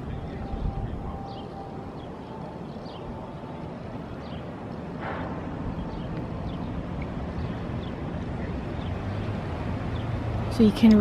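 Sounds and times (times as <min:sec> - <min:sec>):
traffic rumble: 0:00.0 - 0:11.0
wind: 0:00.0 - 0:11.0.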